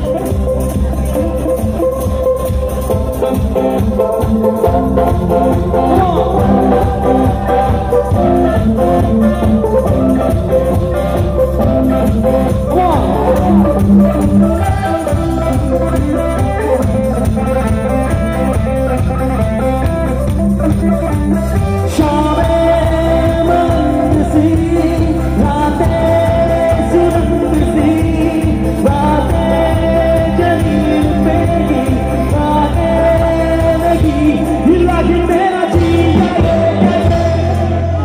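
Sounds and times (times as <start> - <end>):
electric guitars: 0.0 - 38.0
live band playing: 0.0 - 38.0
man singing: 0.0 - 38.0.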